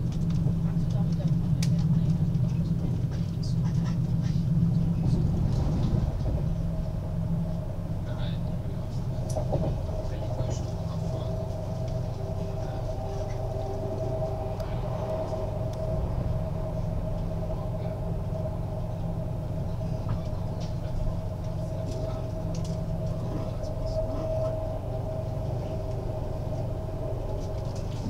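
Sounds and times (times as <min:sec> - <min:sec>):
mid-pitched train hum: 0:00.0 - 0:28.0
train wheels rumbling on track: 0:00.0 - 0:28.0.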